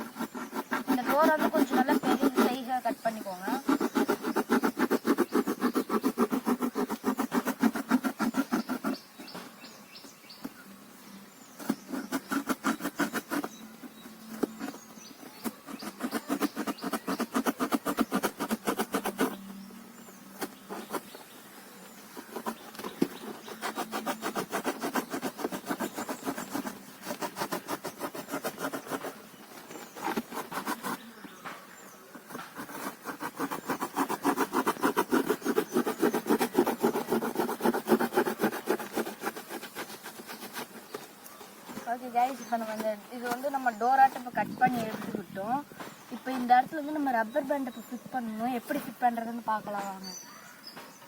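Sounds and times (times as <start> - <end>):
cutter blade sawing cardboard: 0.0 - 9.6, 11.6 - 19.6, 20.3 - 45.2.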